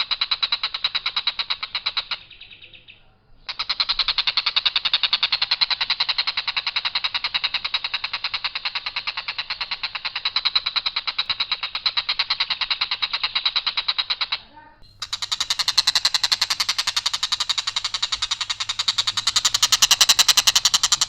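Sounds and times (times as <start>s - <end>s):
kingfisher rattling call: 0.0s - 2.7s, 3.5s - 21.0s.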